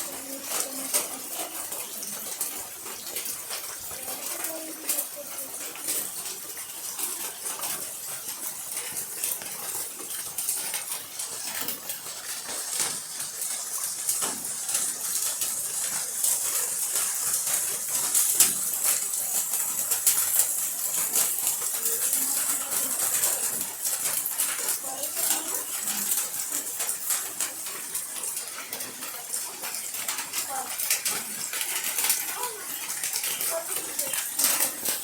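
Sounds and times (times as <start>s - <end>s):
drip-like ticks: 0.0s - 35.0s
steady rain falling: 0.0s - 35.0s.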